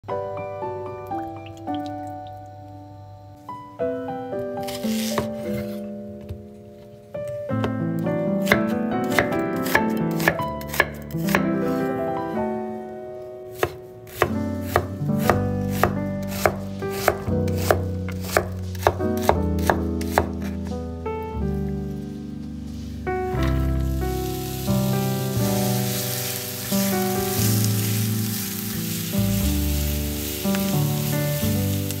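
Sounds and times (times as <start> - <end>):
background music: 0.0 - 32.0.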